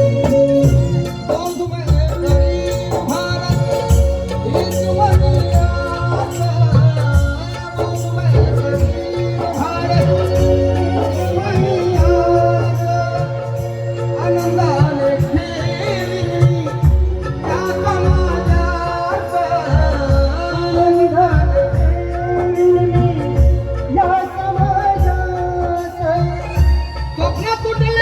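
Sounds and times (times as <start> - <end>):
person singing: 0.0 - 28.0
steady drum beat: 0.0 - 28.0.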